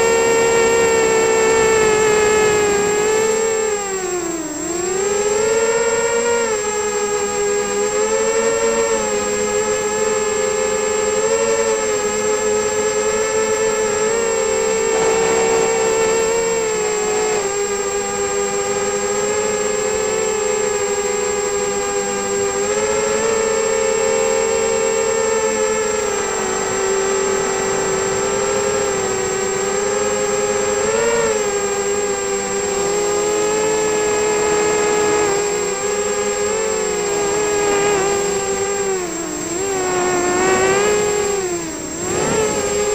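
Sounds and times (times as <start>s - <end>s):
quadcopter motors whining: 0.0s - 42.9s
thin constant high tone: 0.0s - 42.9s.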